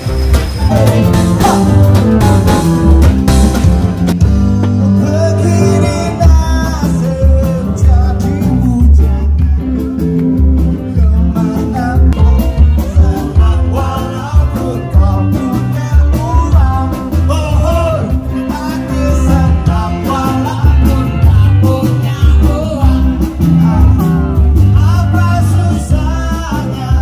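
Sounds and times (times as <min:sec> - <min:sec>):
live rock band playing: 0:00.0 - 0:27.0
person singing: 0:00.6 - 0:03.1, 0:04.2 - 0:27.0.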